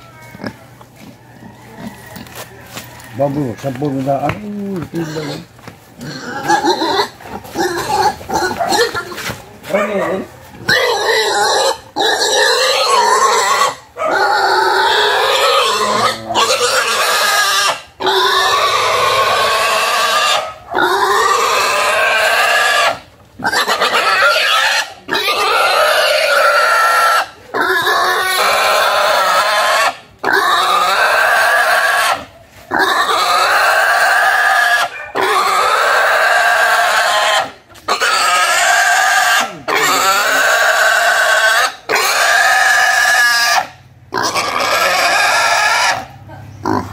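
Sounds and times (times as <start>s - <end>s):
pig squealing: 4.8s - 46.9s.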